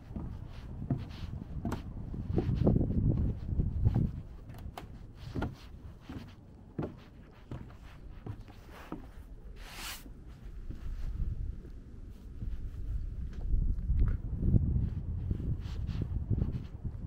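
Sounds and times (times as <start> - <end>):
footsteps on a trail: 0.0 - 17.0
wind buffeting microphone: 0.0 - 17.0.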